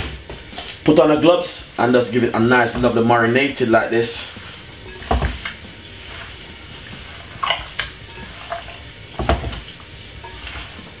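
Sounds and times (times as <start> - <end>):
wet squelching of mixing food: 1.7 - 11.0.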